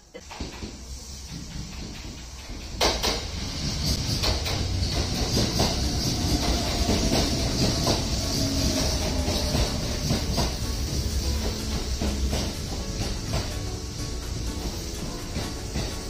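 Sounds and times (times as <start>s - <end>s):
train rumbling: 0.0s - 16.0s
wheels clicking over rail joints: 0.1s - 16.0s.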